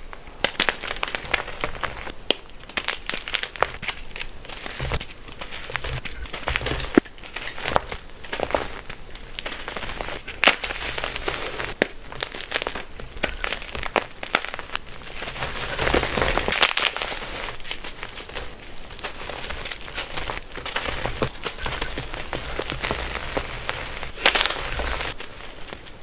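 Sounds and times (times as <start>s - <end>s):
chalk blocks crunching: 0.0s - 26.0s.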